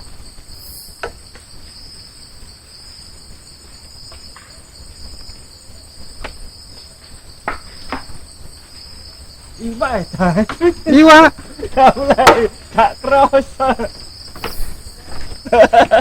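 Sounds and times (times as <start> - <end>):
insects chirping at night: 0.0 - 16.0.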